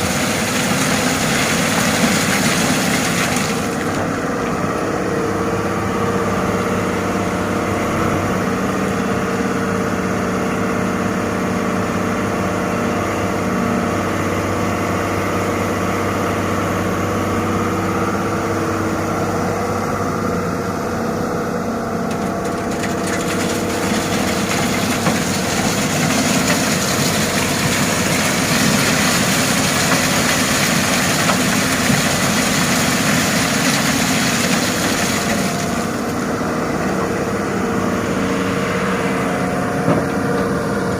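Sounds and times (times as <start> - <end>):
diesel engine idling: 3.6 - 33.1, 35.2 - 40.9.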